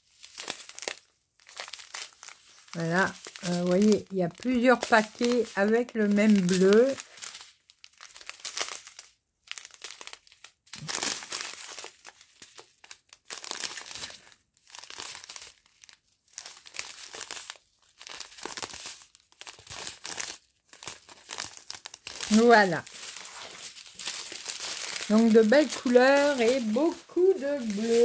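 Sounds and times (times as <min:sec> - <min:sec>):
plastic packets crinkling: 0:00.0 - 0:28.0.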